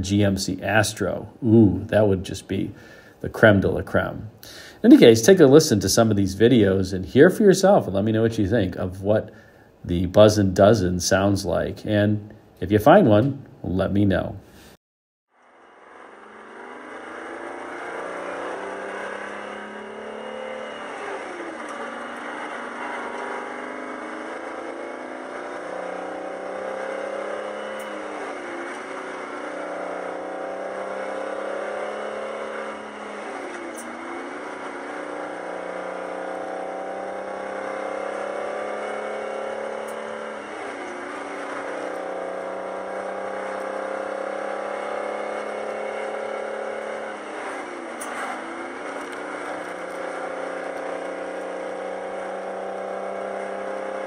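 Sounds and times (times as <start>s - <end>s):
diesel truck engine from cab: 0.0s - 10.7s, 15.4s - 54.0s.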